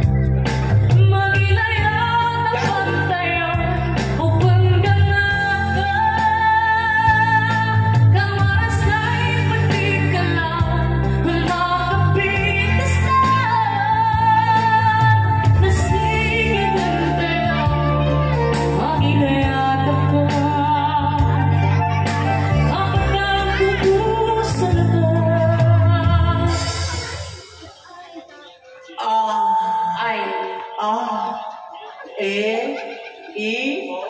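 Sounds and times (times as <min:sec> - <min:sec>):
electronic keyboard: 0:00.0 - 0:29.0
woman singing with vibrato: 0:00.9 - 0:34.0.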